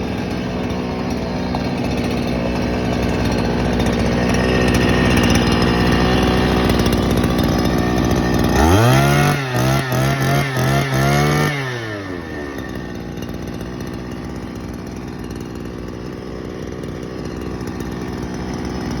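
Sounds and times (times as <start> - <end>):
brush cutter engine revving: 0.0 - 19.0.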